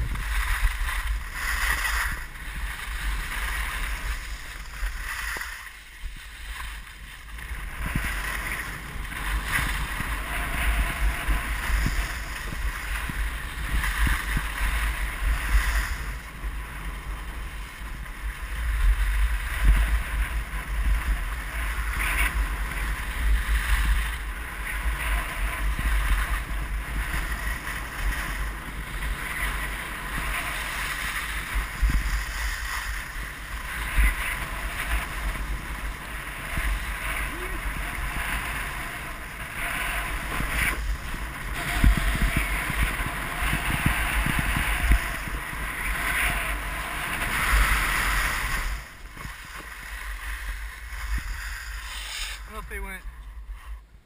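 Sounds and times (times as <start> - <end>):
edges sliding over hard snow: 0.0 - 53.8
wind buffeting microphone: 0.0 - 54.0.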